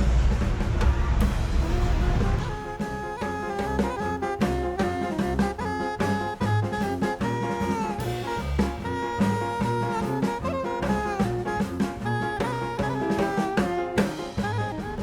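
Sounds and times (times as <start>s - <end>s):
upbeat jazz music: 1.6s - 15.0s.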